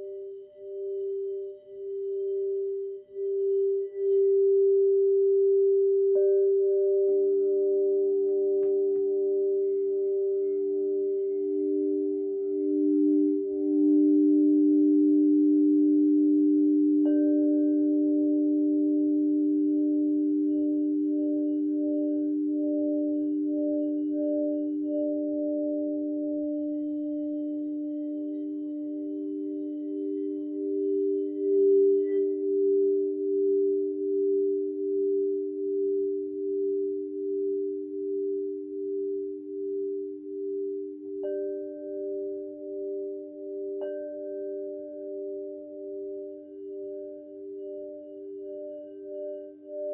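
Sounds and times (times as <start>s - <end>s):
crystal singing bowls ringing: 0.0s - 49.9s.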